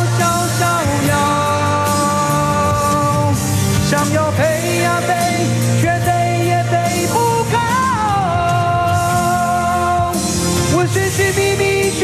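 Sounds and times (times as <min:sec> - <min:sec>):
man singing into a microphone: 0:00.0 - 0:12.0
rock band playing: 0:00.0 - 0:12.0.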